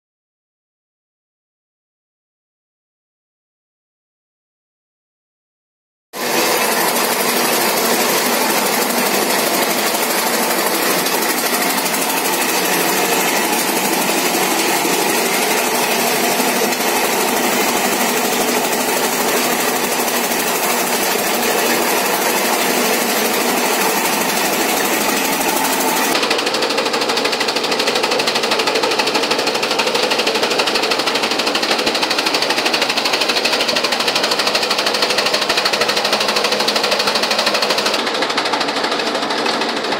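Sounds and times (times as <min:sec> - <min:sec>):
chaff cutter chopping fodder: 0:06.2 - 0:39.9.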